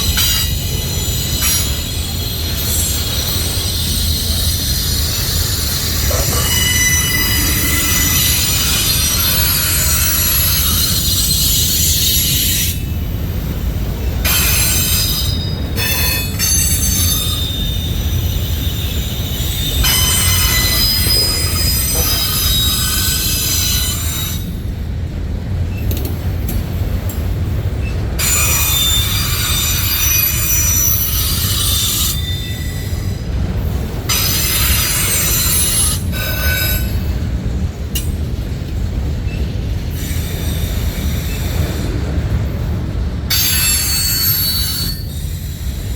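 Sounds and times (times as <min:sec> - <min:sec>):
train cars rumbling past: 0:00.0 - 0:45.9
wheels squealing on rails: 0:00.0 - 0:45.9.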